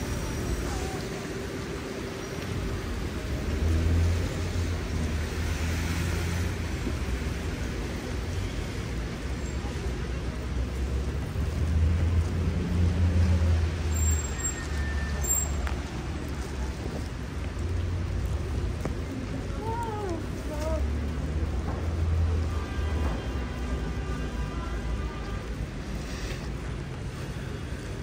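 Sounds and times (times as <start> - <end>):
car tyres hissing on wet road: 0.0 - 28.0.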